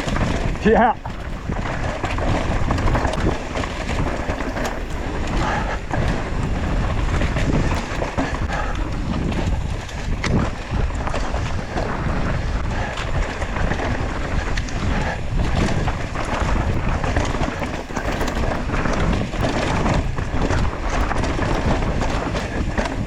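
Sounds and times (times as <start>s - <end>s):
bike rattling: 0.0s - 23.0s
tyres clattering over rough trail: 0.0s - 23.0s
wind buffeting microphone: 0.0s - 23.0s.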